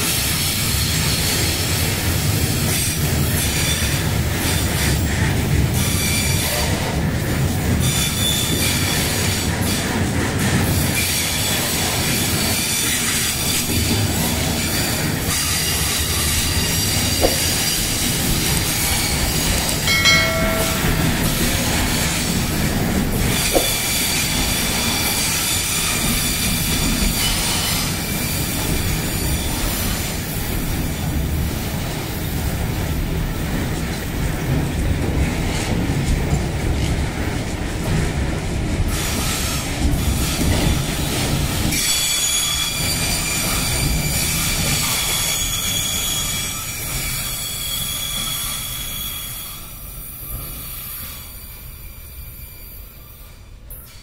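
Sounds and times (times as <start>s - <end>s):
clickety-clack of wheels: 0.0s - 19.9s, 22.2s - 54.0s
steel wheels rumbling on rails: 0.0s - 54.0s.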